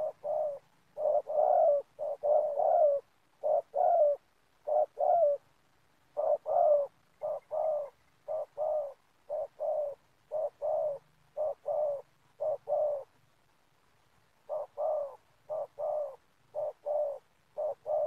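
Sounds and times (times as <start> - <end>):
dove cooing: 0.0 - 13.2, 14.3 - 18.0.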